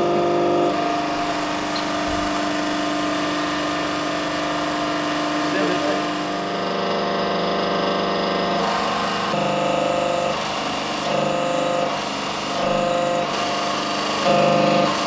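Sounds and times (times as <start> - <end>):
press mechanical hum: 0.0 - 15.0.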